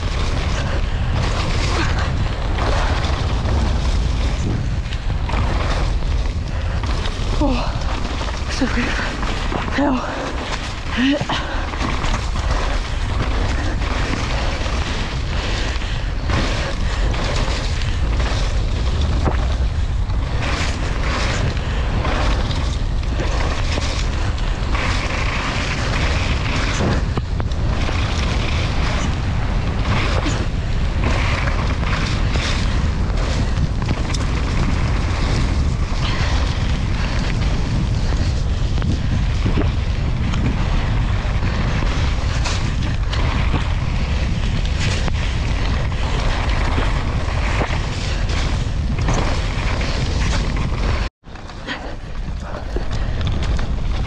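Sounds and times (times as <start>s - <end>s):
bike knocks and rattles: 0.0s - 54.0s
wind rushing over microphone: 0.0s - 54.0s.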